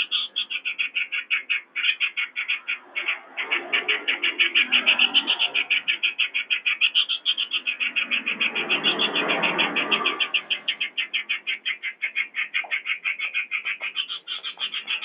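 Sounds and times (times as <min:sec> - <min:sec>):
bird chattering high notes: 0:00.0 - 0:15.0.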